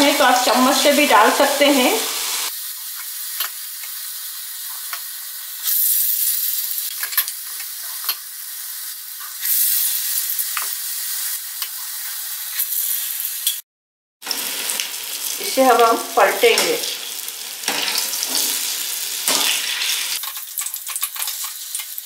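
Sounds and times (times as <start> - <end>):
hot oil sizzling: 0.0 - 13.6, 14.2 - 22.0.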